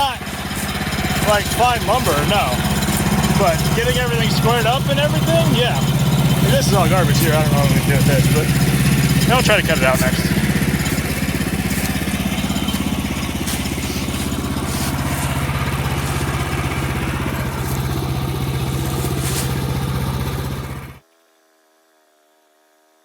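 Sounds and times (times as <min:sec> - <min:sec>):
gasoline engine running: 0:00.0 - 0:21.0.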